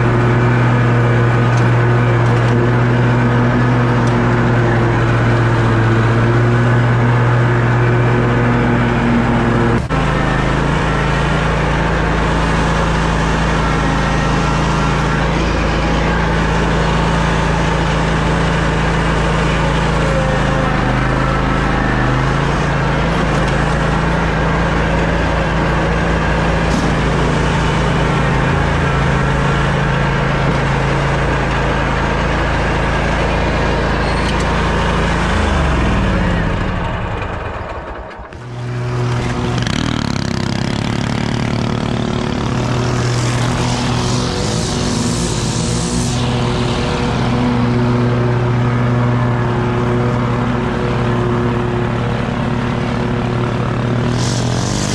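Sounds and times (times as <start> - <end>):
mower engine running: 0.0 - 54.9.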